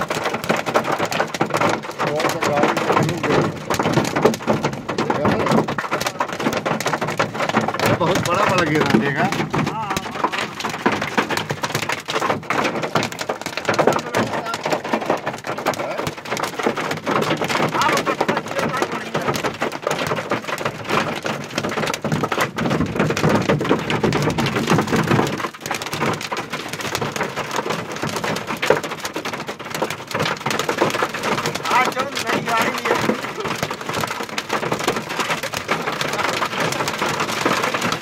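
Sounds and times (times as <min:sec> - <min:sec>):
heavy rain and hail: 0:00.0 - 0:38.0.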